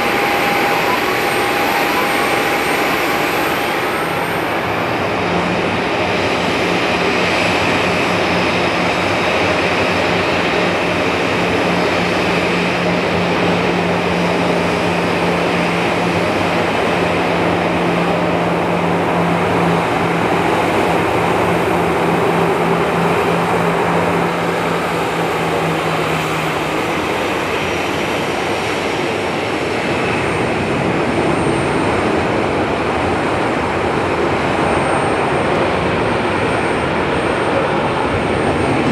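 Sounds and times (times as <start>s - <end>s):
jet engines at taxi power: 0.0s - 38.9s.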